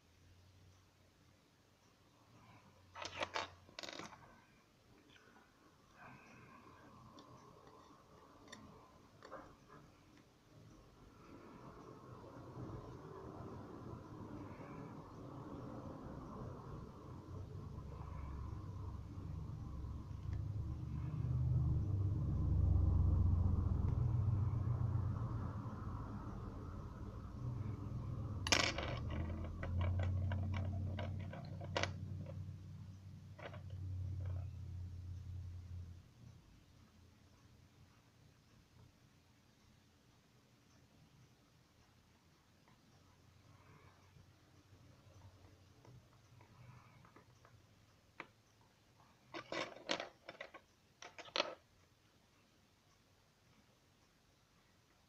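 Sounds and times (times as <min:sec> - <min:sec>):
steady low hum: 0:04.1 - 0:49.4.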